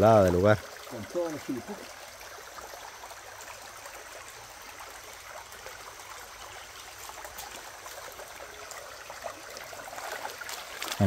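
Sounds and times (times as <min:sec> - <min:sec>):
stream babbling over stones: 0:00.0 - 0:11.0.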